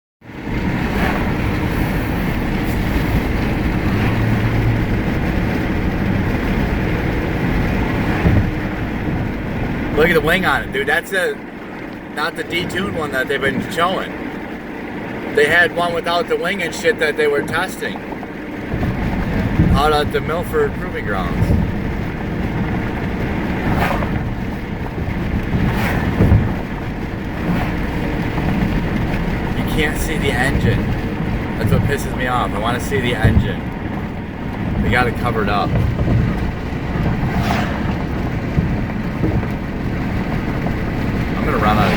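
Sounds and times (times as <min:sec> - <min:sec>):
car road and engine rumble: 0:00.2 - 0:41.9.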